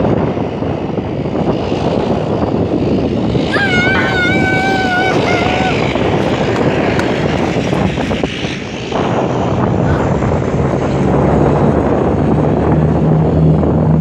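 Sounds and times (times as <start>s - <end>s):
low propeller hum: 0.0s - 14.0s
turboprop plane engine roar: 0.0s - 14.0s.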